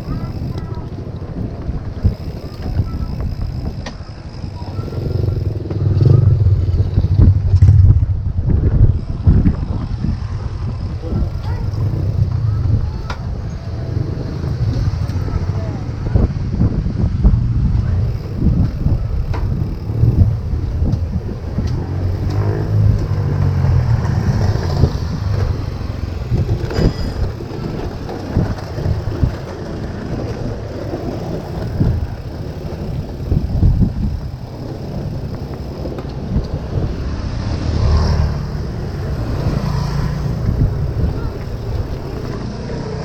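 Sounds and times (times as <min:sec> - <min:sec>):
vehicles passing: 0:00.0 - 0:43.0
wind rumbling on microphone: 0:00.0 - 0:43.0.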